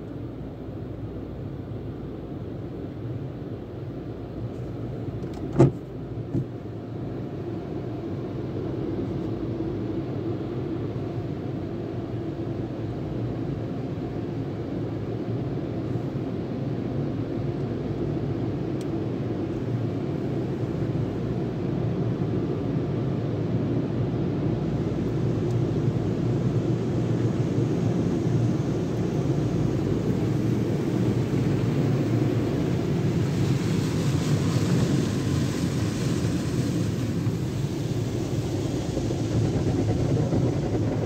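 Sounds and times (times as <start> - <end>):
muffled car wash machinery rumble: 0.0 - 41.0.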